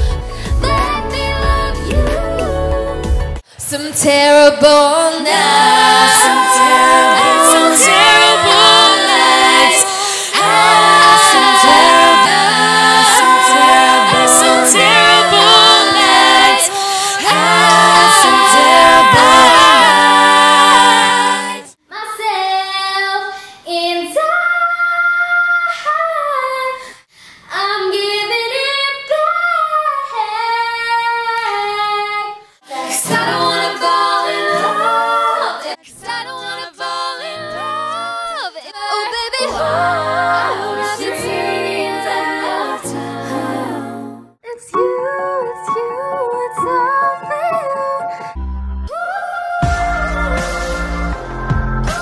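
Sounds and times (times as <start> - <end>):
women singing in harmony: 0.0 - 26.6, 27.5 - 50.4.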